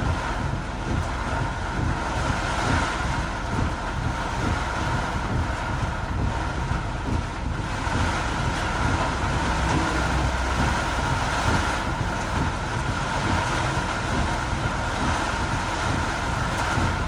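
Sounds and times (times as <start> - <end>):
low road rumble: 0.0 - 17.0
torrential rain: 0.0 - 17.0
tyre spray on wet road: 0.2 - 17.0.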